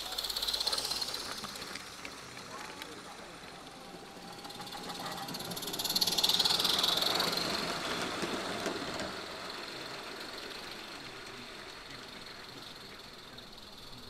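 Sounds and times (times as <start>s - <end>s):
model steam locomotive passing: 0.0s - 14.0s.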